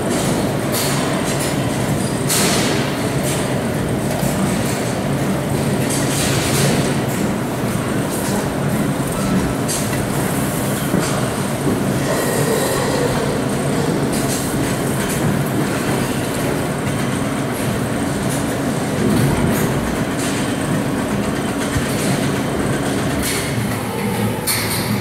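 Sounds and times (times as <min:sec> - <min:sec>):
mechanical rumble and rattle: 0:00.0 - 0:25.0.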